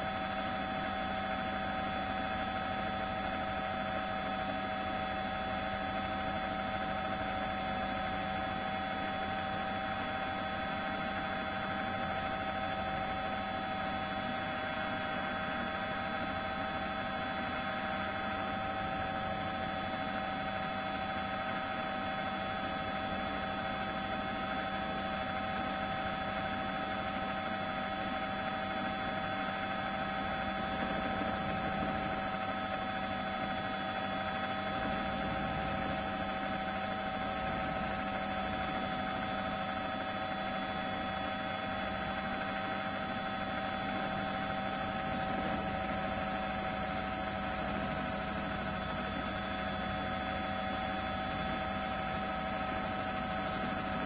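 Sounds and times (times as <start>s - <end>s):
constant whining tones: 0.0s - 54.0s.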